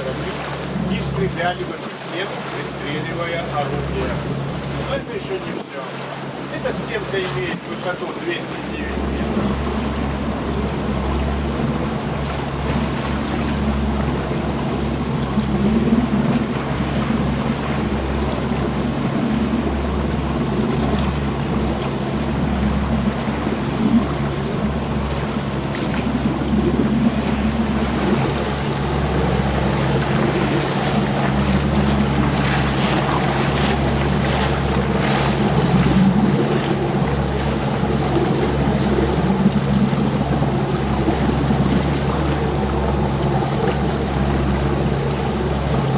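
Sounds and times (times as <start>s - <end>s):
motorboat engine droning: 0.0s - 45.9s
water splashing along hull: 0.0s - 45.9s.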